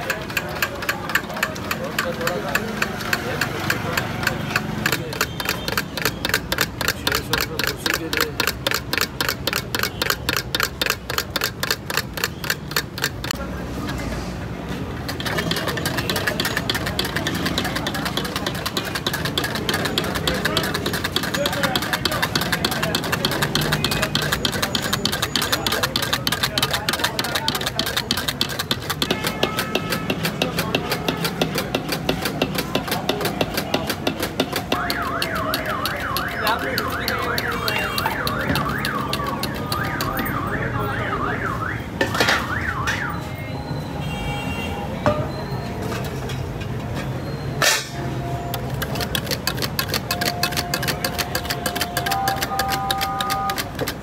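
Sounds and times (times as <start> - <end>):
whisk clicking in metal bowl: 0.0 - 13.4, 15.1 - 40.3, 48.6 - 54.0.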